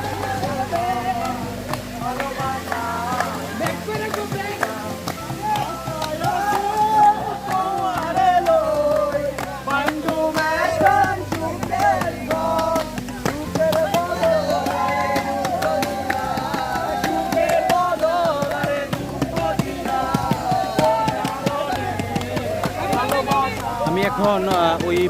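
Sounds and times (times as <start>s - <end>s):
song with steady beat: 0.0s - 25.0s.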